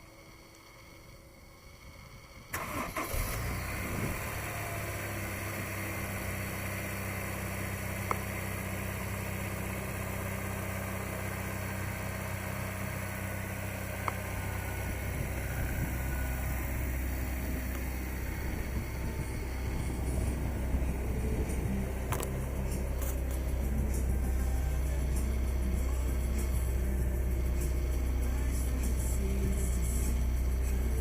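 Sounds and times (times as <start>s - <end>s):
car engine cranking and starting: 0.0s - 31.0s
car engine idling: 0.0s - 31.0s.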